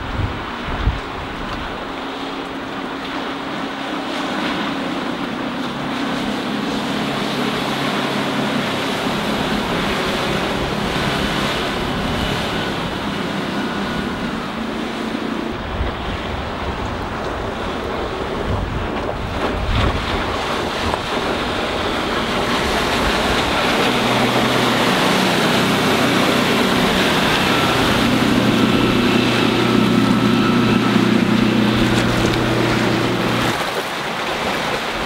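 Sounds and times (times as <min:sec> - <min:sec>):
boat engine drone: 0:00.0 - 0:35.0
hull and wake rushing: 0:00.0 - 0:35.0
wind buffeting microphone: 0:00.0 - 0:35.0.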